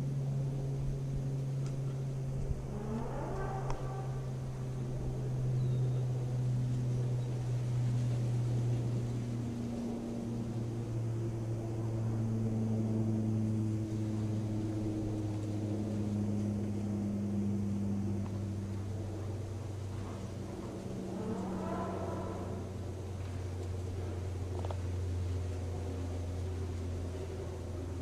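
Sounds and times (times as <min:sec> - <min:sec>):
deep drone hum: 0:00.0 - 0:28.0
wavering groaning tones: 0:00.0 - 0:28.0.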